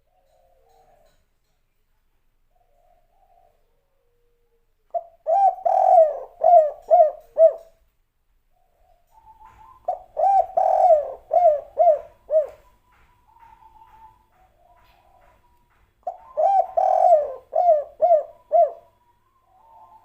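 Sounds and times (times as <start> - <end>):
dove cooing: 0.0 - 1.2, 2.5 - 7.8, 8.5 - 20.0.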